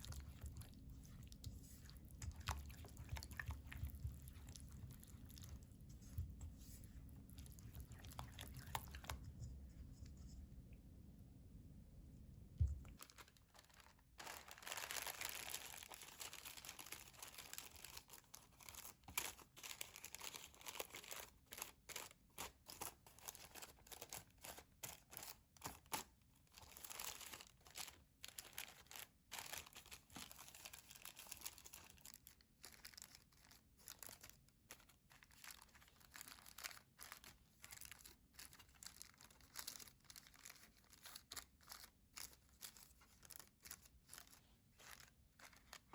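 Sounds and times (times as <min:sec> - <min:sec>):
crinkly rustling of food preparation: 0:00.0 - 0:10.6, 0:12.6 - 0:45.9.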